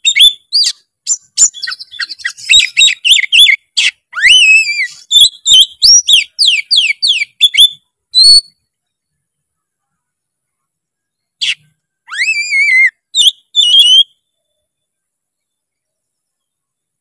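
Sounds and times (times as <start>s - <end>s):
songbird singing chirps and whistles: 0.0s - 17.0s.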